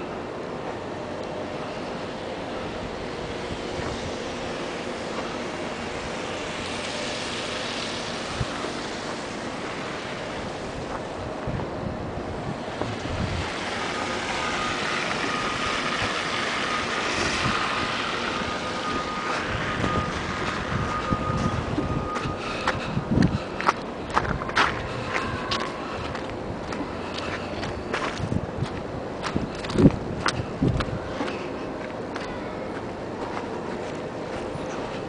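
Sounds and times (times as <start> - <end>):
thin steady whine: 0.0 - 35.0.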